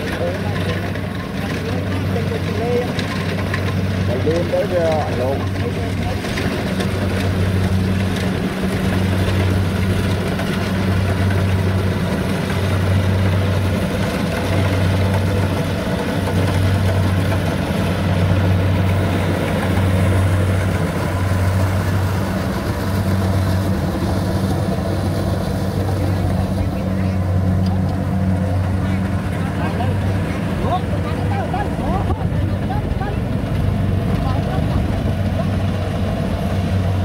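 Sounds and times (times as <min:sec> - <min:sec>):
engine humming steadily: 0:00.0 - 0:37.0.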